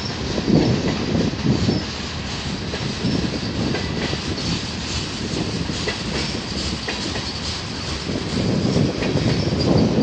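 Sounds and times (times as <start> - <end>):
train wheels rolling on rails: 0.0 - 10.0.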